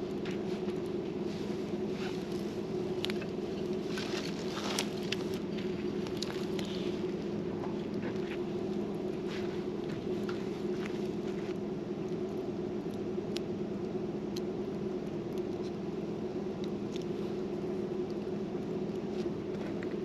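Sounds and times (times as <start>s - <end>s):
steady low hum: 0.0s - 20.0s
campfire crackling and popping: 0.1s - 20.0s.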